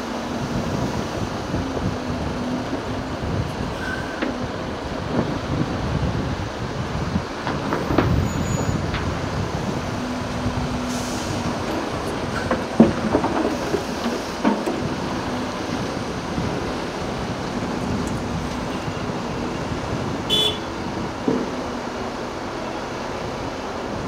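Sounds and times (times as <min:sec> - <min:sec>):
heavy vehicle rumble: 0:00.0 - 0:24.0.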